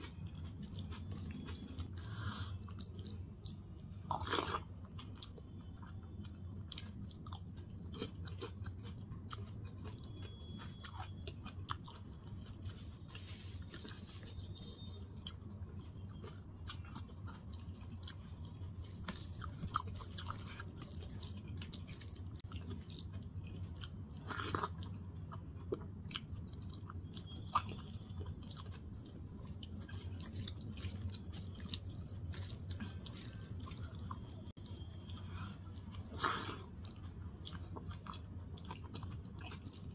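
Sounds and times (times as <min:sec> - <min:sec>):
chewing soft food: 0:00.0 - 0:39.9.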